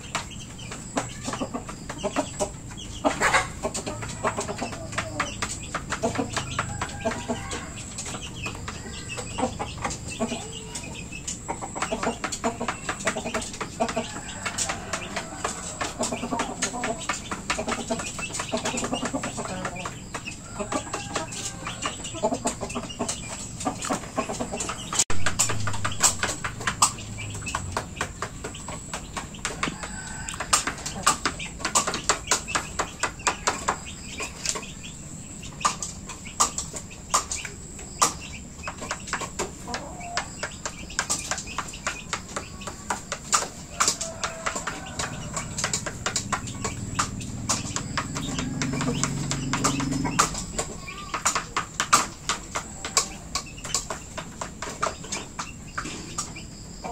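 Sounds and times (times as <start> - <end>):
chickens clucking: 0.0 - 56.9
pecking ticks: 0.0 - 56.9.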